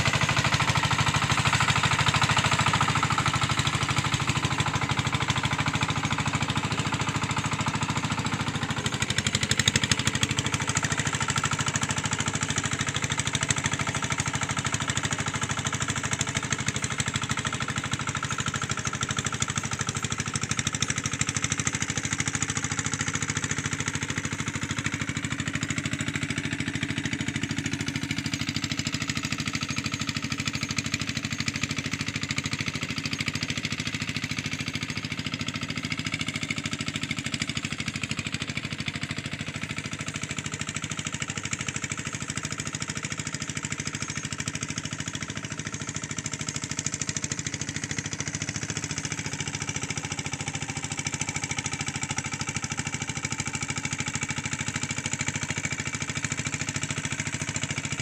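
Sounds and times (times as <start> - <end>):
hand tractor engine running: 0.0 - 58.0.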